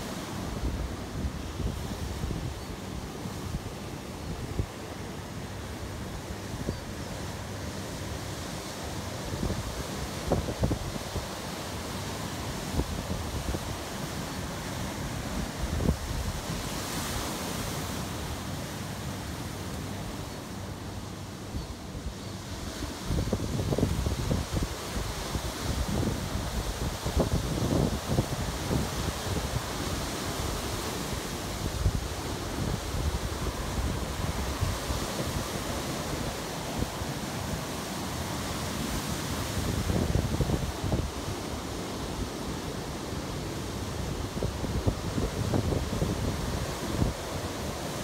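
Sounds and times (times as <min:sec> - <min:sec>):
wind on microphone: 0:00.0 - 0:05.0, 0:08.4 - 0:18.2, 0:21.4 - 0:48.0.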